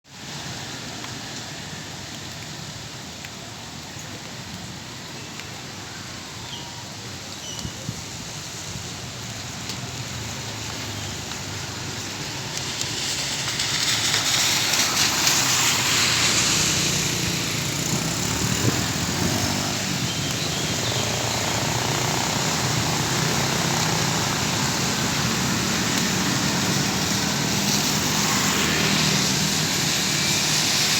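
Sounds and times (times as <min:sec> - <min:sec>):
tyres hissing on wet road: 0:00.1 - 0:30.9.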